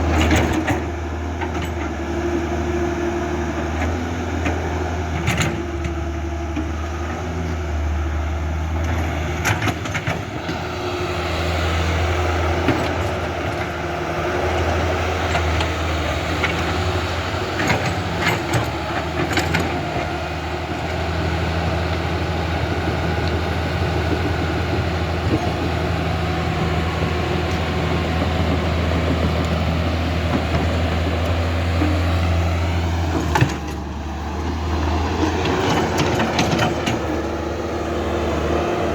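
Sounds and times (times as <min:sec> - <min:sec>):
excavator engine hum: 0:00.0 - 0:38.9.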